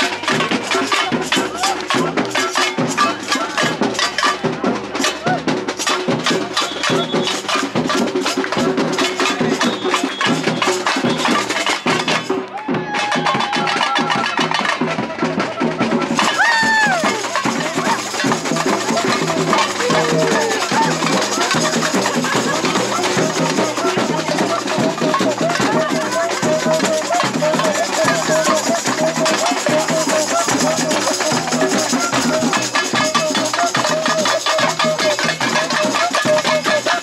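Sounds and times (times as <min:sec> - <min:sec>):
samba percussion ensemble: 0:00.0 - 0:37.0.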